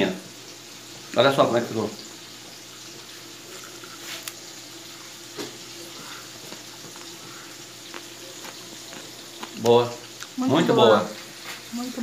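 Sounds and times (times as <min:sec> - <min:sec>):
tripe sizzling in a pan: 0:00.0 - 0:12.0.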